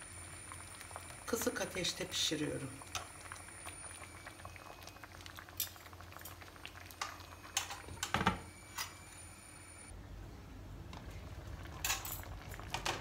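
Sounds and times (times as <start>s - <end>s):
syrup bubbling with fine crackle: 0.0s - 9.9s, 10.9s - 13.0s.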